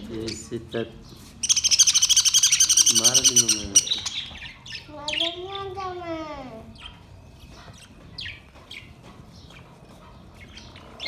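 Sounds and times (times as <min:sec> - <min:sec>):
budgerigars chirping: 0:00.0 - 0:05.8, 0:06.7 - 0:11.0.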